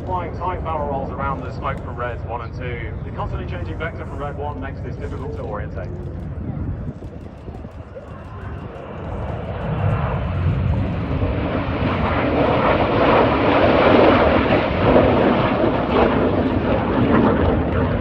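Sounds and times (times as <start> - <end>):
jet aircraft flying past: 0.0 - 18.0.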